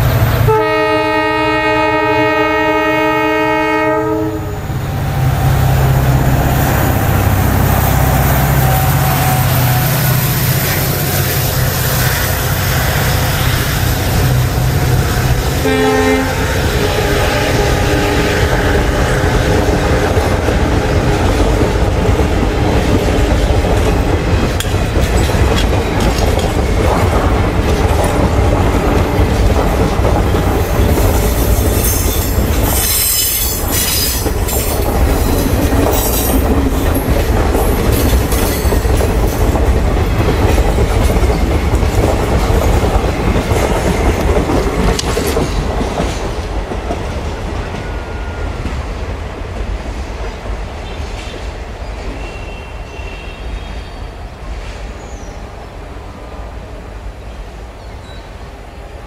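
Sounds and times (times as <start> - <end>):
train wheels rumbling and clattering: 0.0 - 52.3.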